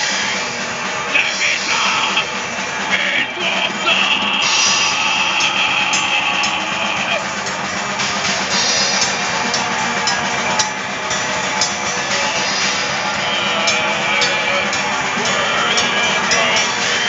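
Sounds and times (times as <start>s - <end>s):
drum kit with cymbal hits: 0.0s - 17.0s
harsh shouted vocal: 0.0s - 17.0s.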